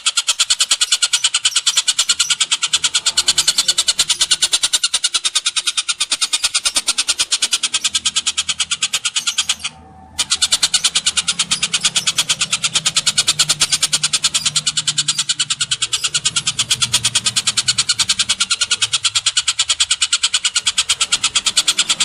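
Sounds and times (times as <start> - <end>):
bird calls chattering: 0.0 - 22.0.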